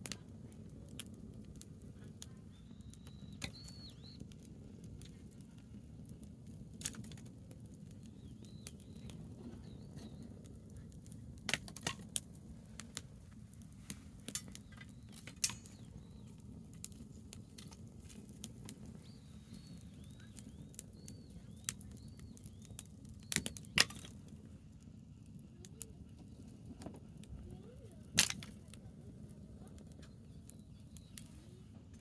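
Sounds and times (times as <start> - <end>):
burning branches crackling: 0.0 - 32.0.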